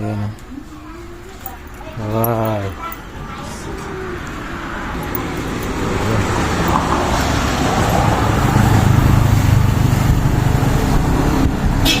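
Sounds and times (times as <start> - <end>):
vehicle engine rumbling: 0.4 - 12.0.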